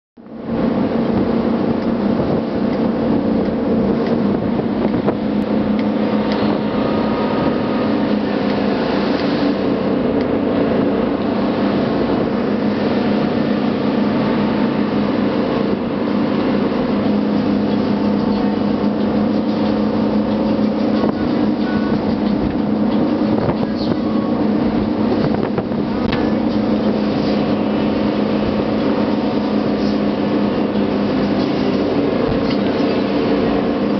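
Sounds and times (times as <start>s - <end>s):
motorboat engine droning: 0.2s - 33.9s
water rushing over hull: 0.2s - 33.9s
wind: 0.2s - 33.9s.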